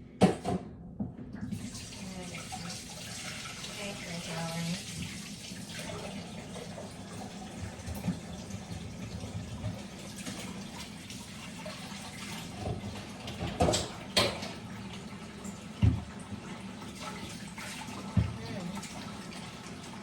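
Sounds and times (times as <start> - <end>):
tap running into sink: 0.2 - 10.9, 12.0 - 14.7, 15.4 - 19.3.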